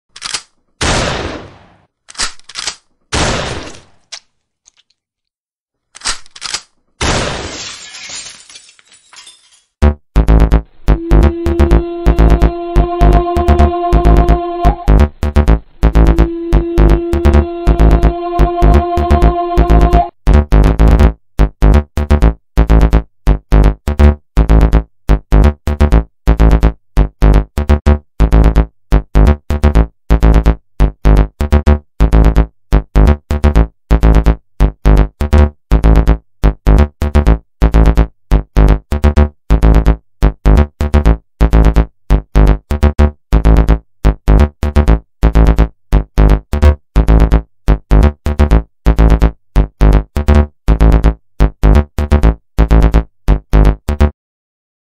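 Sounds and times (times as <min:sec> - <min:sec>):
chopped bass synthesizer stabs: 0:09.8 - 0:54.1.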